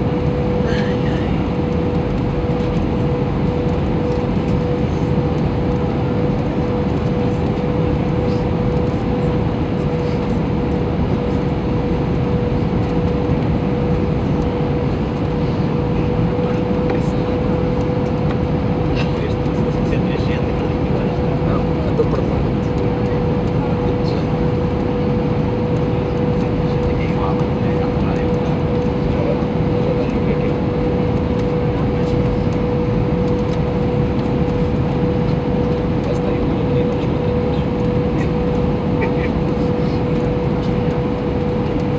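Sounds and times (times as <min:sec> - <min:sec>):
cabin engine drone and airflow: 0:00.0 - 0:41.9
steady hum: 0:00.0 - 0:41.9.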